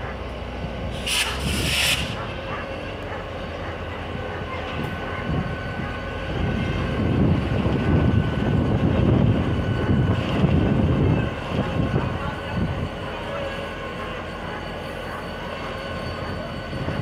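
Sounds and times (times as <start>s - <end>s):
locomotive engine rumble: 0.0s - 17.0s
train wheels on rails: 0.0s - 17.0s.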